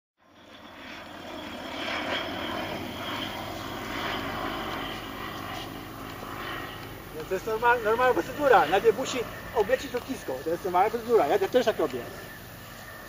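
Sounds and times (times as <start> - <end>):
light aeroplane flying overhead: 0.2 - 13.0.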